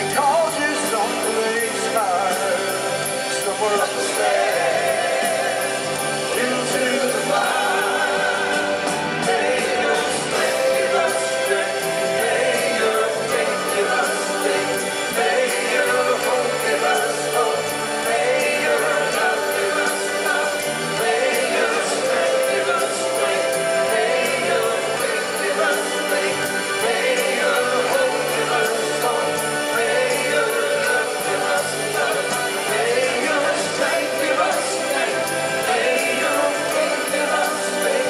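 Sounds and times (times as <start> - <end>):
accordion: 0.0 - 38.0
live rock band playing: 0.0 - 38.0
voices singing together: 0.0 - 38.0.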